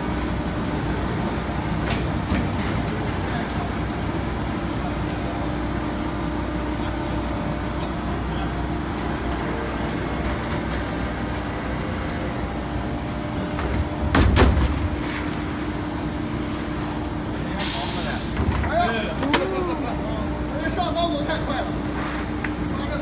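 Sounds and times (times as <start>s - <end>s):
industrial machine humming: 0.0s - 23.0s.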